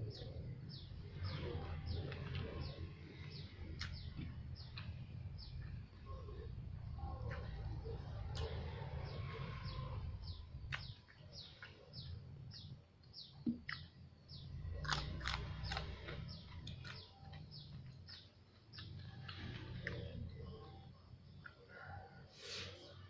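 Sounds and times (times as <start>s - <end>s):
bird chirping: 0.0s - 23.0s
chewing and crunching food: 0.1s - 6.1s, 6.8s - 22.0s.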